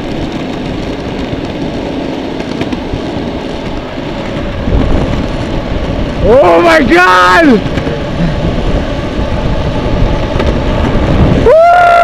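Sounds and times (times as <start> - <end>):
longboard wheels rolling on asphalt: 0.0 - 12.0
wind buffeting microphone: 0.0 - 12.0.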